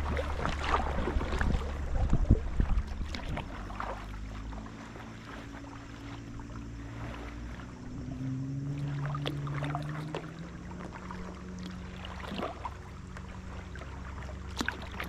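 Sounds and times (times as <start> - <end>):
kayak paddle splashing: 0.0 - 15.0.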